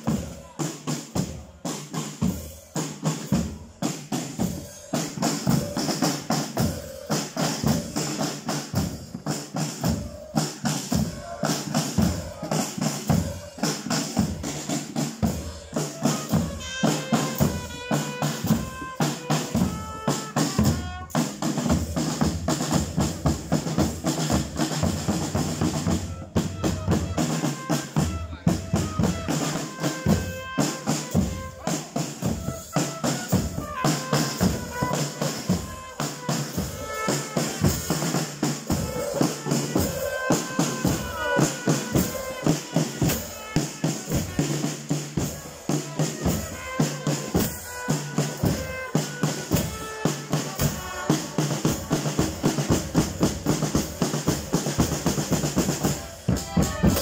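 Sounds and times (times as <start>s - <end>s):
drum band marching rhythm: 0.0s - 57.0s.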